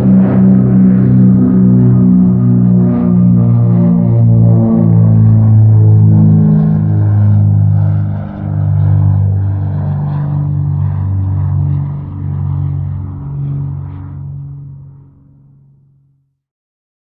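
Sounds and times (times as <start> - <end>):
distant propeller aircraft drone: 0.0 - 16.3.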